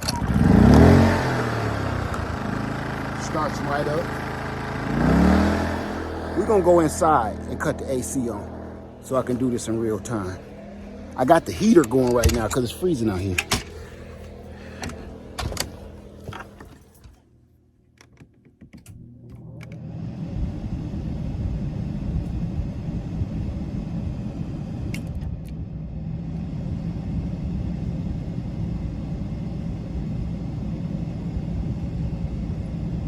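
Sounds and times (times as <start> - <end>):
low machine hum: 0.0 - 17.7, 19.0 - 33.0.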